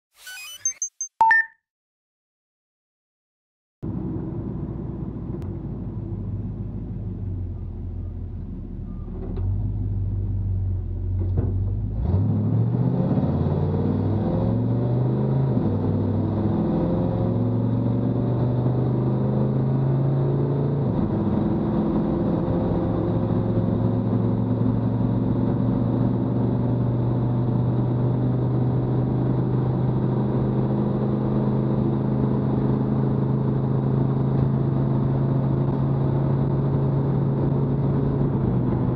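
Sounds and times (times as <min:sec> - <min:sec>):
truck engine accelerating: 0:03.8 - 0:38.9.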